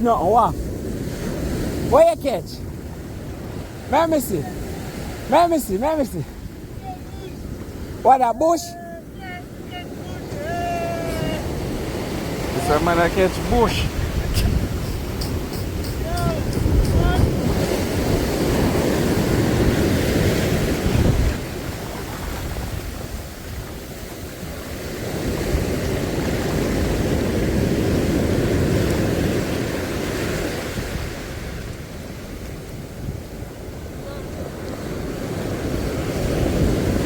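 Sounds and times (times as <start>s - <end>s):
sea surf washing ashore: 0.0s - 37.0s
wind buffeting microphone: 0.0s - 37.0s.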